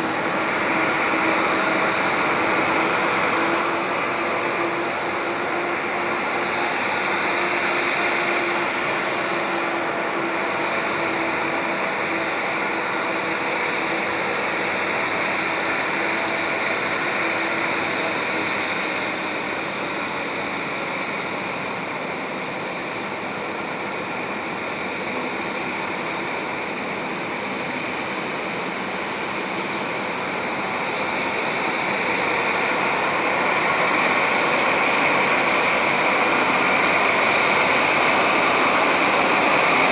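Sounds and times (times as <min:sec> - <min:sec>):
jet aircraft rushing hiss: 0:00.0 - 0:39.9.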